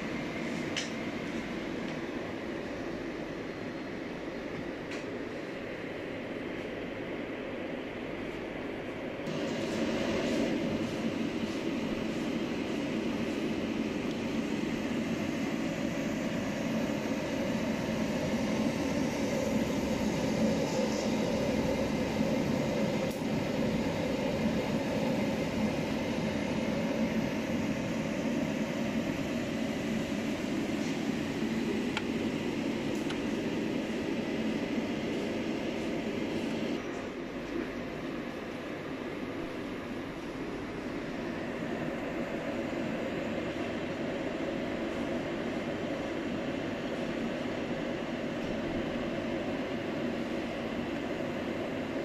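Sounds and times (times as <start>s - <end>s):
film processor mechanical hum: 0.0s - 52.0s.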